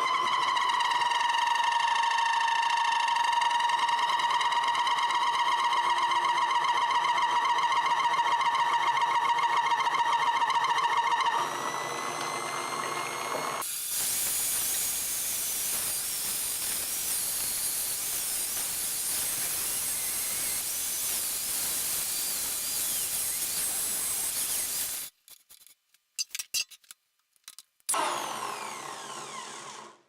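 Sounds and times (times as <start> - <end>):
wood lathe running: 0.0 - 25.1, 28.0 - 30.0.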